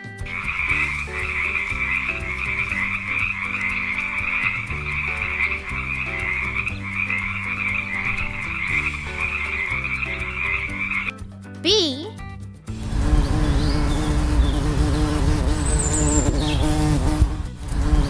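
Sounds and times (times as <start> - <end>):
soft backing tune: 0.0 - 18.0.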